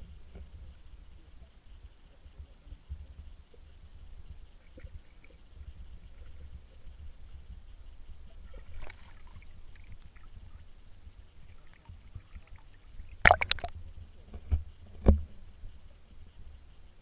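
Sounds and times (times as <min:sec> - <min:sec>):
muffled water rumble: 0:00.0 - 0:17.0.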